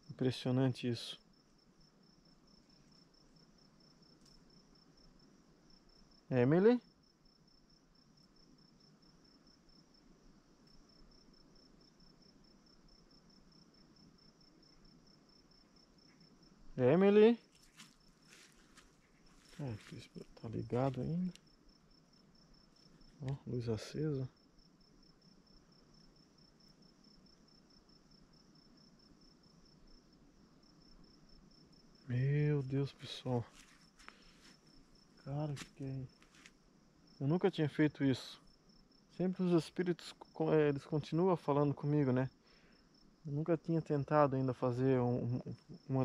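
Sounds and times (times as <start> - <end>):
high pulsed insect chirping: 0.1 - 43.5.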